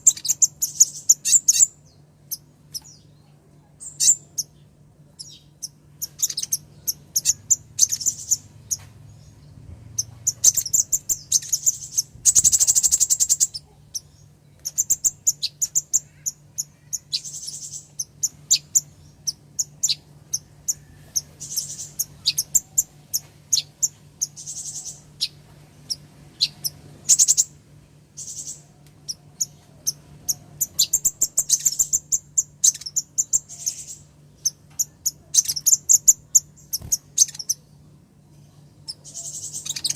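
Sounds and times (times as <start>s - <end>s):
bird chipping and trilling: 0.0s - 27.6s, 28.2s - 37.8s, 38.4s - 39.9s
faint low hum: 0.0s - 39.9s.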